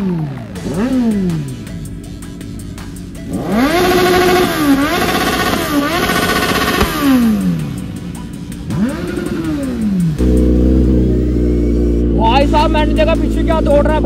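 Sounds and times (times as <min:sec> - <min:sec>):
motorcycle engine revving hard: 0:00.0 - 0:01.8, 0:03.2 - 0:08.0, 0:08.6 - 0:14.0.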